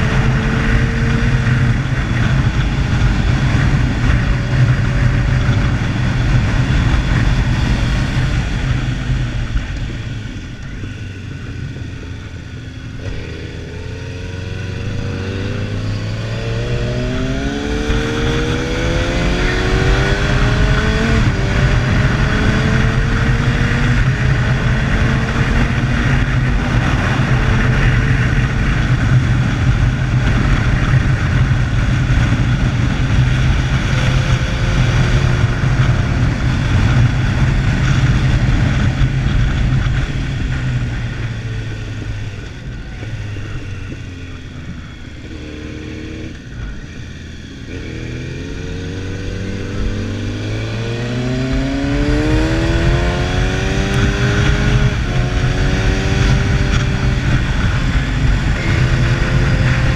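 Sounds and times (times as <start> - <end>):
heavy wind noise: 0.0 - 59.9
motorcycle engine running: 0.0 - 59.9.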